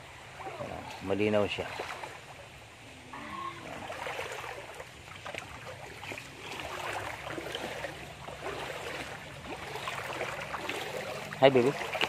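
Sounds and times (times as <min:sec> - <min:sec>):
river water babbling: 0:00.0 - 0:12.0.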